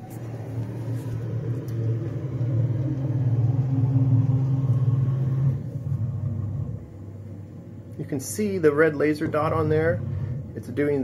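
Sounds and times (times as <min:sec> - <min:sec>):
cnc machine humming: 0:00.0 - 0:07.8, 0:08.4 - 0:11.0.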